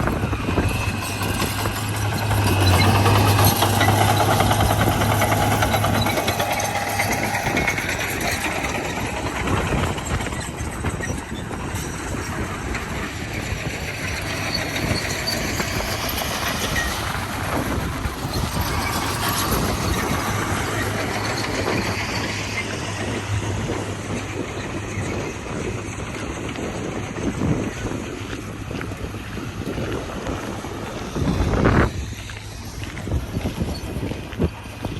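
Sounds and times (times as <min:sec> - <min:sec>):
bulldozer diesel engine hum: 0:00.0 - 0:34.9
steel tracks clattering: 0:00.0 - 0:34.9.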